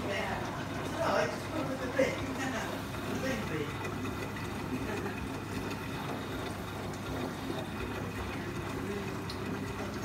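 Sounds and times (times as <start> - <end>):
low steady hum: 0.0 - 10.0
washing machine drum turning: 0.0 - 10.0
water sloshing: 0.0 - 10.0.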